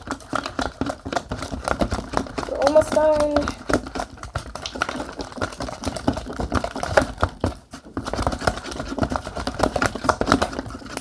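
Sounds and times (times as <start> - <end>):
slime stirred with sticky clicks: 0.0 - 11.0.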